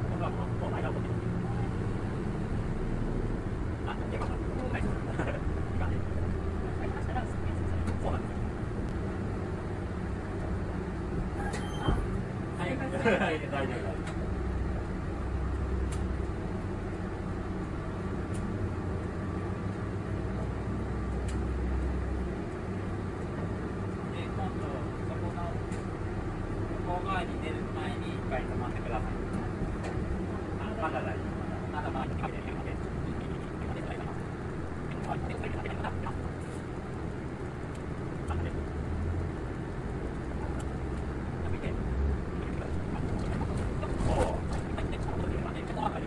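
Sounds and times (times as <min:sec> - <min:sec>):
bus engine drone: 0:00.0 - 0:46.0.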